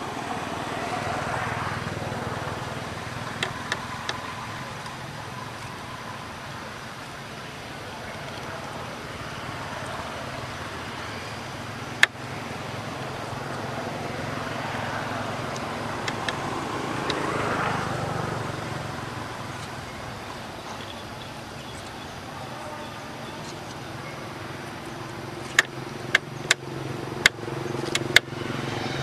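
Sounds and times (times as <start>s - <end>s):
outdoor background noise: 0.0s - 29.0s
vehicle passing: 0.0s - 29.0s.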